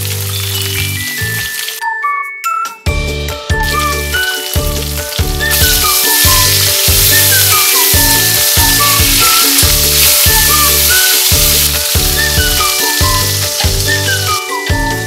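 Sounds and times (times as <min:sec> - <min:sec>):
chicken sizzling in hot oil: 0:00.0 - 0:01.8, 0:03.5 - 0:15.0
background music: 0:00.0 - 0:15.0.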